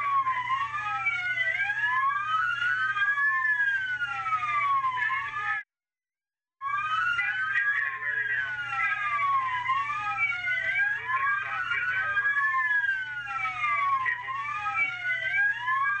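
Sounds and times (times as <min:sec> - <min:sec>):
police sirens wailing: 0:00.0 - 0:05.6, 0:06.6 - 0:16.0.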